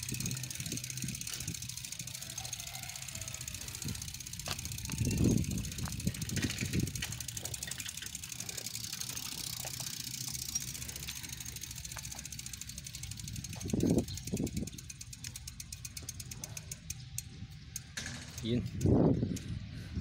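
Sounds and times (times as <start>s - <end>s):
bicycle freewheel ticking: 0.0s - 20.0s.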